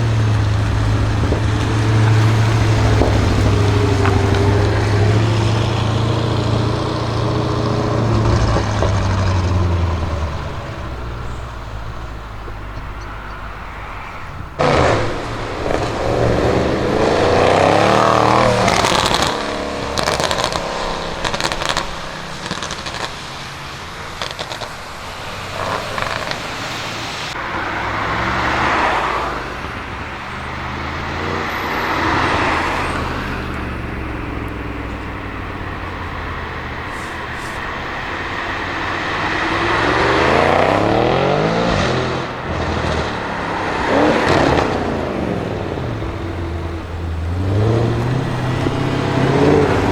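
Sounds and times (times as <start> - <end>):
car engine revving: 0.0 - 49.9
exhaust crackles and pops: 0.0 - 49.9.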